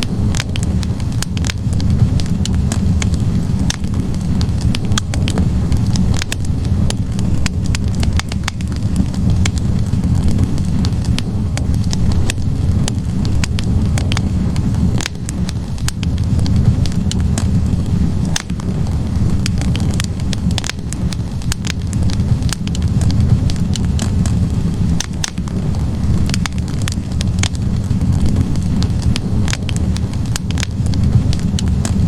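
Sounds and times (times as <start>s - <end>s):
rumble of flames: 0.0s - 32.0s
wood crackling and popping: 0.0s - 32.0s.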